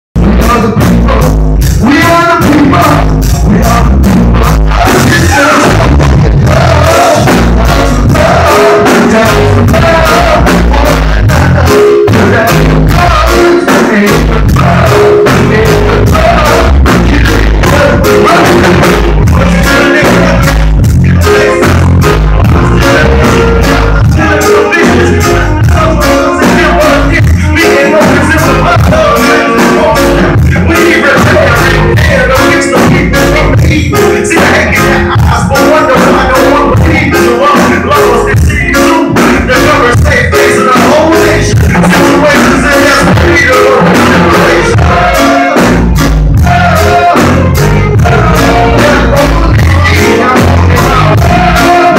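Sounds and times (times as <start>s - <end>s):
person singing: 0.2s - 51.9s
reggae band playing: 0.2s - 51.9s.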